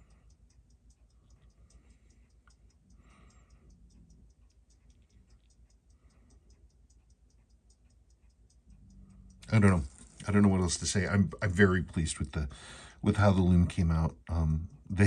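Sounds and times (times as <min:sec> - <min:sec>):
watch ticking: 0:00.0 - 0:15.0.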